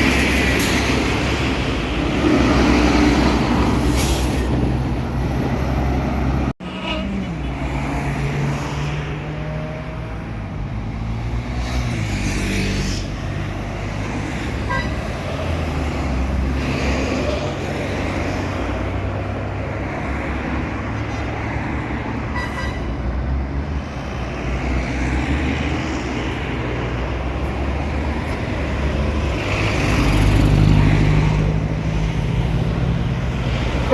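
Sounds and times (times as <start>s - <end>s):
road noise: 0.0s - 33.9s.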